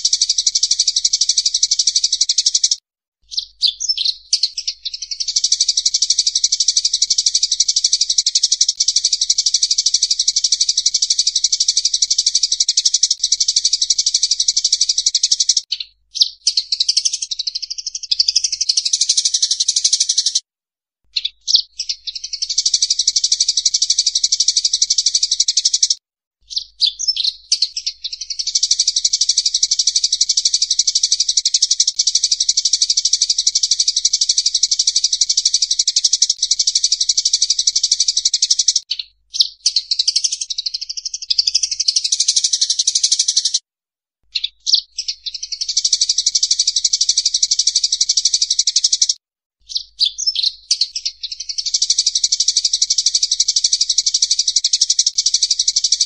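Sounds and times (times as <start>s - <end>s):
sparrows chattering: 0.0s - 20.4s, 21.1s - 43.6s, 44.3s - 56.0s.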